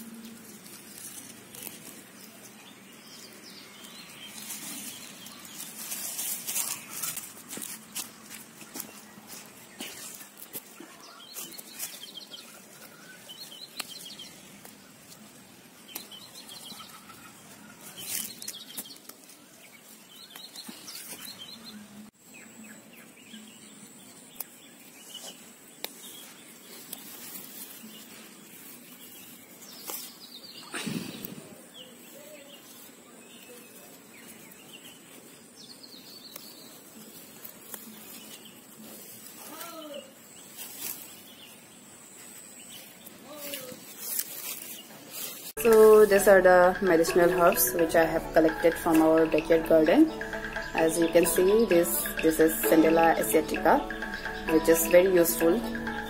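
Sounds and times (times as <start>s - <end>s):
birds chirping: 0.0s - 39.1s, 44.6s - 56.0s
rustling of garden plants: 0.0s - 53.9s.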